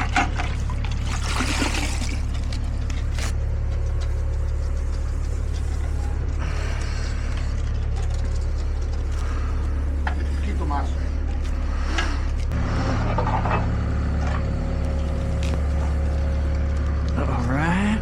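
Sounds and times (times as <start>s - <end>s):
diesel truck engine idling: 1.8s - 18.0s.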